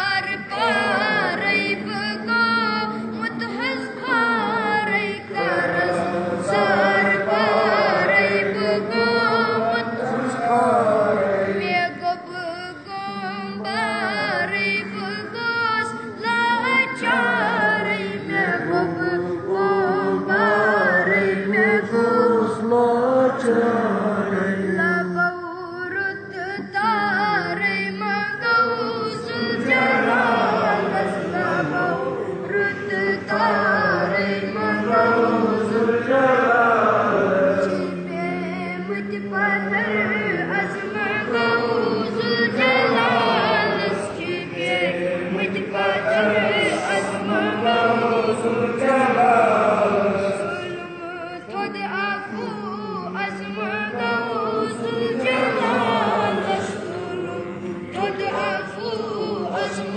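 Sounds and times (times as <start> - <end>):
child singing devotional song: 0.0 - 23.5, 24.3 - 36.2, 37.5 - 49.2, 50.0 - 59.9.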